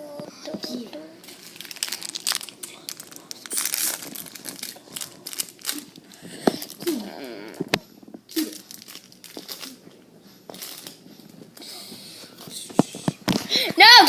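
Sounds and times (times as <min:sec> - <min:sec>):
rustling and crinkling: 0:01.2 - 0:13.5.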